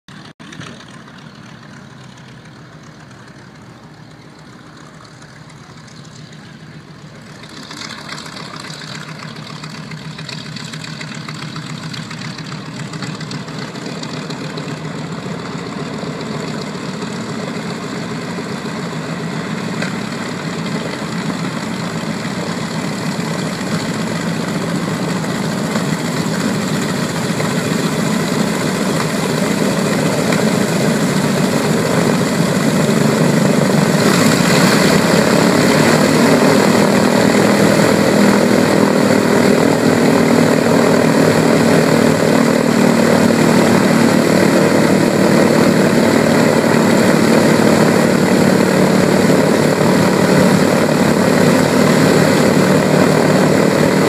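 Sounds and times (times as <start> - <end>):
propeller aircraft engines taxiing: 0.1 - 54.0.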